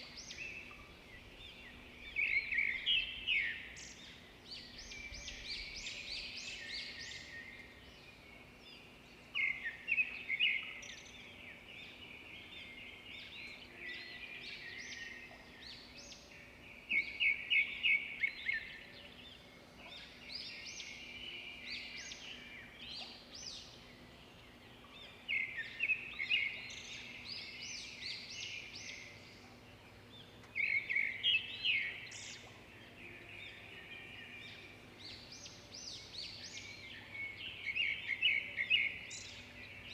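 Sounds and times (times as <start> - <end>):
loud bird song phrase: 0.0 - 39.9
songbirds chirping in chorus: 0.0 - 39.9.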